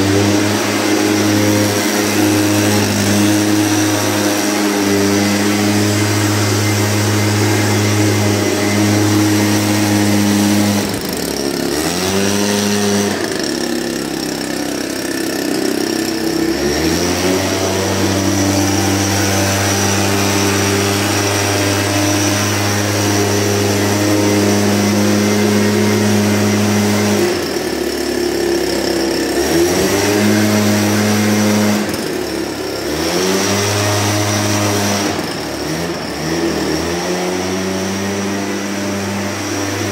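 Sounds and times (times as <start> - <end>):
mist blower two-stroke engine: 0.0 - 39.9.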